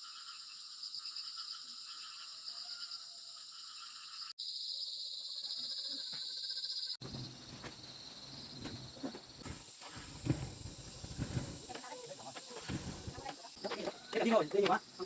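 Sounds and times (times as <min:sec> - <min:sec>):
insects chirring: 0:00.0 - 0:15.0
outdoor background noise: 0:00.0 - 0:15.0.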